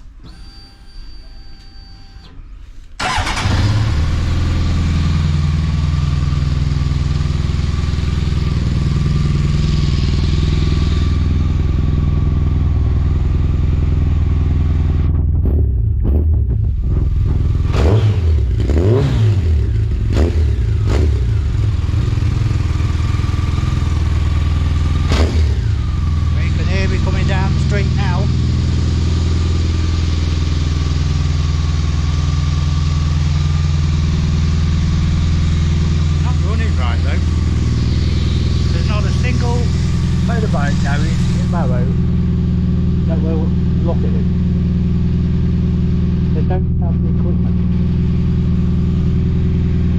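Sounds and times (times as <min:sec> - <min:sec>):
motorcycle engine idling: 0:03.0 - 0:18.8, 0:19.4 - 0:49.9
motorcycle engine revving: 0:03.0 - 0:49.9.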